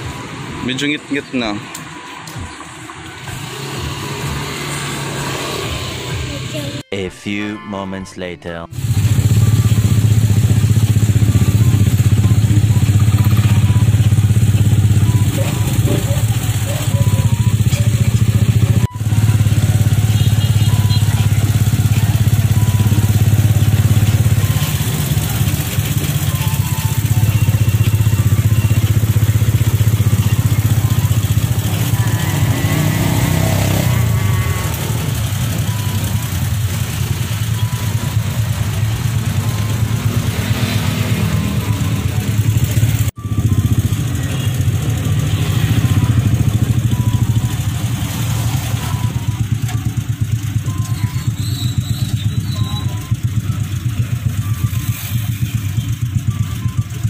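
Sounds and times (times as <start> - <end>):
motorcycle engine running: 0.0 - 6.8, 8.7 - 57.0.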